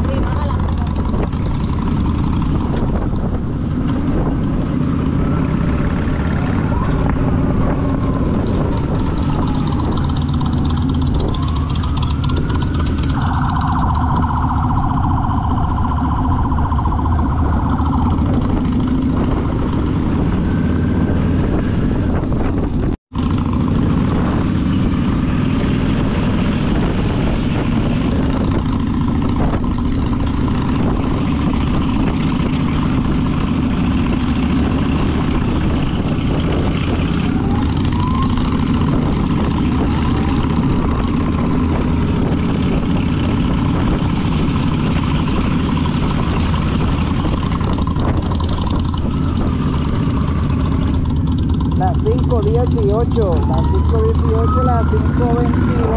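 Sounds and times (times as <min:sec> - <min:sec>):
motorcycle engine drone: 0:00.0 - 0:55.9
wind rush on microphone: 0:00.0 - 0:55.9.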